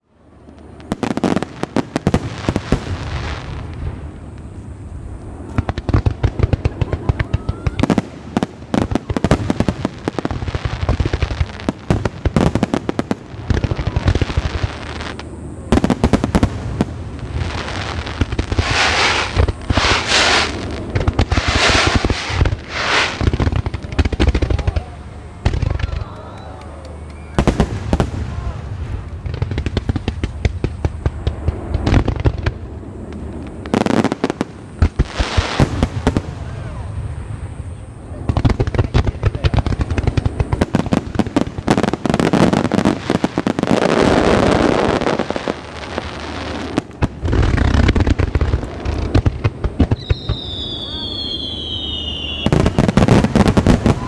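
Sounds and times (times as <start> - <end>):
fireworks bursts and bangs: 0.4 - 54.0.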